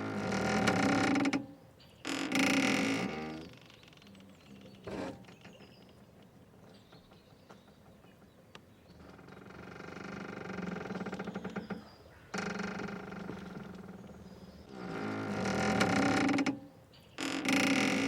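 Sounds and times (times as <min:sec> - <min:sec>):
boat rope squeaking and creaking: 0:00.0 - 0:06.1, 0:08.9 - 0:18.0.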